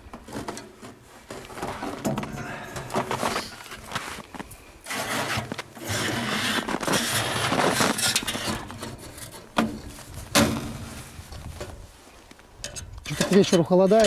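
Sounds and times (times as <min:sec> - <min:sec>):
handling noise rubbing and scraping: 0:00.0 - 0:14.0.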